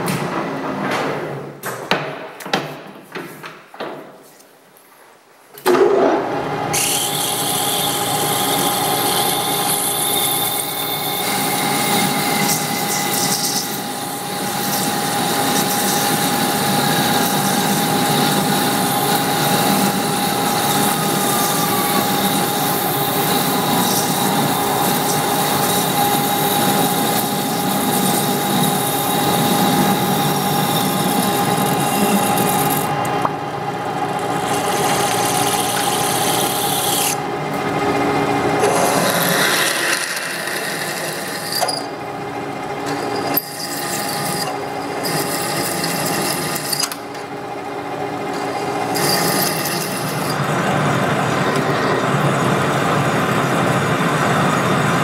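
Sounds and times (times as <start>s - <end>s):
metal lathe whining: 6.7s - 54.6s.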